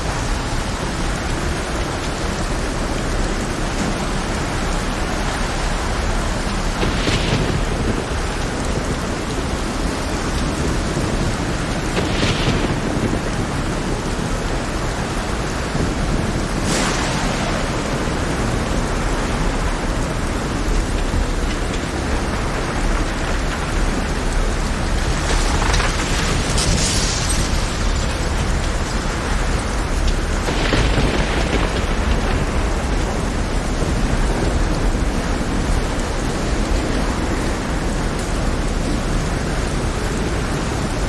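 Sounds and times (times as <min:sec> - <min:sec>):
heavy rain: 0:00.0 - 0:41.0
steady low rumble: 0:00.0 - 0:41.0.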